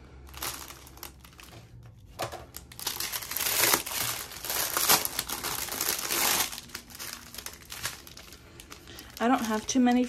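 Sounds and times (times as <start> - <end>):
plastic bag crinkling: 0.2 - 10.0.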